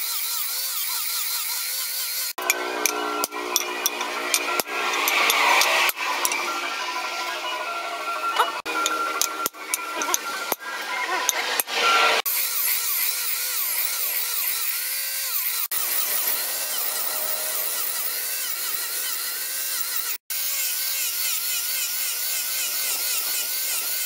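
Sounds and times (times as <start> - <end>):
angle grinder sanding wood: 0.0 - 7.4, 8.4 - 24.0.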